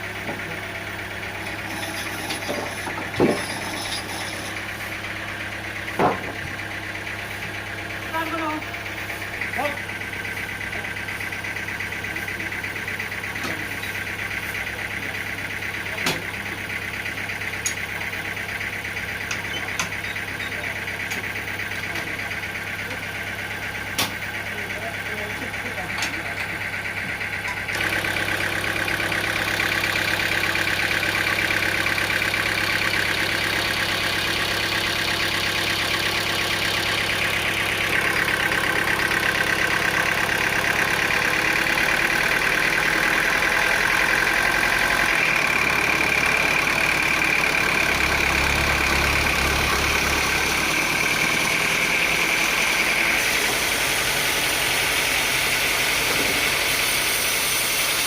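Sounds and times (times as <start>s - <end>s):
sawmill machinery droning: 0.0s - 58.0s.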